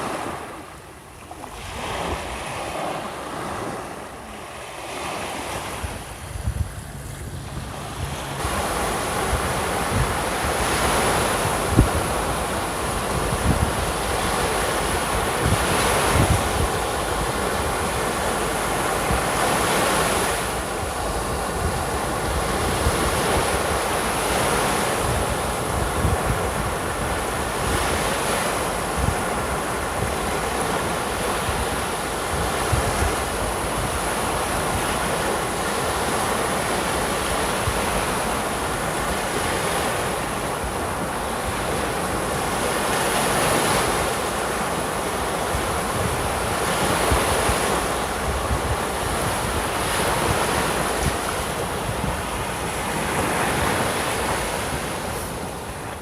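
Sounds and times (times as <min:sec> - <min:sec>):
waves breaking on a beach: 0:00.0 - 0:56.0
wind buffeting the microphone: 0:00.0 - 0:56.0.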